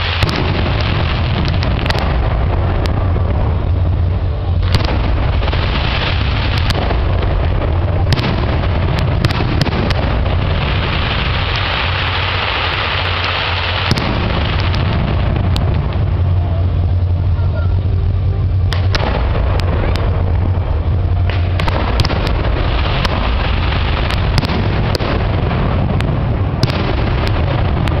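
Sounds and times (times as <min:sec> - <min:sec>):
firework shells bursting: 0:00.0 - 0:03.8, 0:04.5 - 0:16.4, 0:18.7 - 0:28.0
loud rising hiss: 0:00.0 - 0:28.0
low rumble: 0:00.0 - 0:28.0.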